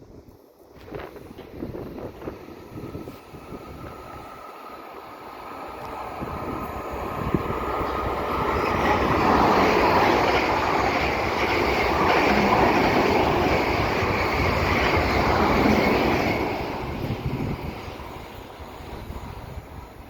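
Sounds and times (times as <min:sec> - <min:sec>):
train rumbling past: 0:00.6 - 0:20.0.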